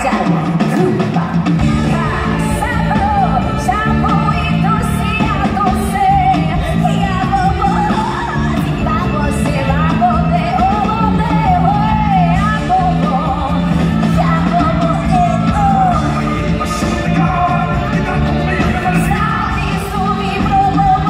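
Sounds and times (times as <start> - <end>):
repeating bass line: 0.0 - 21.0.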